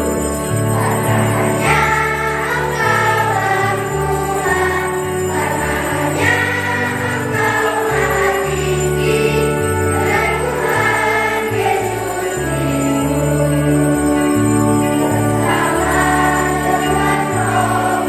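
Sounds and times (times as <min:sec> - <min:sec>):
children's choir singing a hymn: 0:00.0 - 0:18.0
instrumental accompaniment with bass notes: 0:00.0 - 0:18.0.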